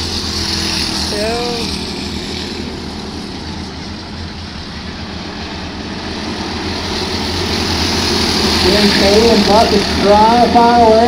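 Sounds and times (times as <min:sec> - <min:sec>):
racing kart engines buzzing: 0:00.0 - 0:11.0.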